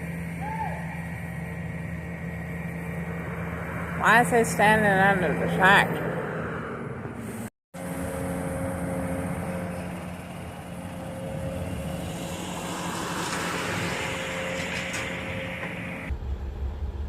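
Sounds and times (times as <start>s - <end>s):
excavator diesel engine running: 0.0s - 6.3s, 7.1s - 17.0s.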